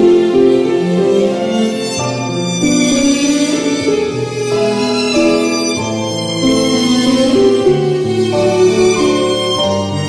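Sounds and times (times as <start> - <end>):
slow violin melody: 0.0 - 10.0.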